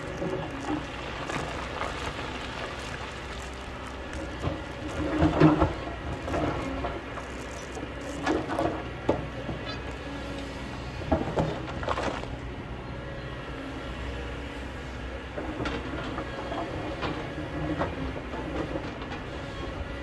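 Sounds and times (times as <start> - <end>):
excavator bucket clanking and scraping: 0.0 - 10.2, 11.0 - 12.4, 15.2 - 19.8
excavator diesel engine running: 0.0 - 20.0.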